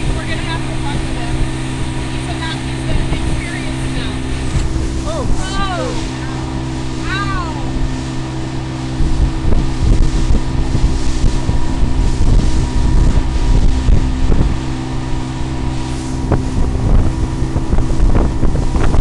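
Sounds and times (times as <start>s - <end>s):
outboard motor droning: 0.0s - 19.0s
rush of boat wake: 0.0s - 19.0s
wind buffeting microphone: 0.0s - 19.0s.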